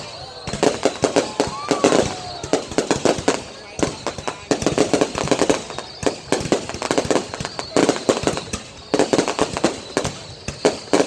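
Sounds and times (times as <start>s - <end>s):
fireworks cracking and banging: 0.0s - 11.0s.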